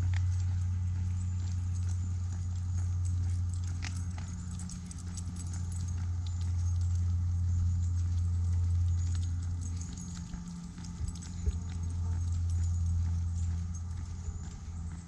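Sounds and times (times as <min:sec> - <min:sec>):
footsteps on asphalt: 0:00.0 - 0:15.0
steady low hum: 0:00.0 - 0:15.0.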